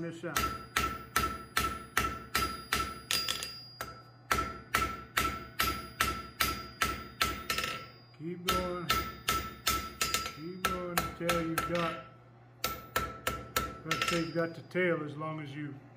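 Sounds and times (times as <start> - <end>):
anvil ringing: 0.2 - 15.1
hammer striking hot steel: 0.3 - 14.6.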